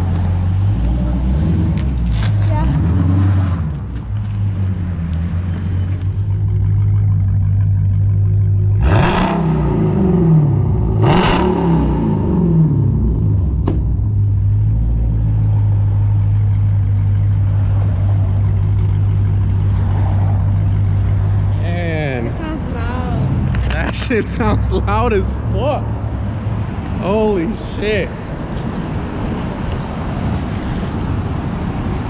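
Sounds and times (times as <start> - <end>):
loud car engine idling and revving: 0.0 - 32.0.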